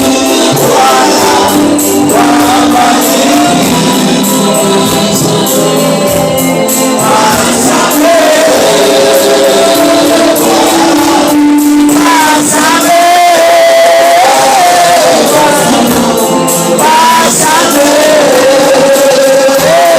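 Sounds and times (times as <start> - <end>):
choir singing with a band: 0.0 - 19.9
tambourine-like percussion: 0.0 - 19.9.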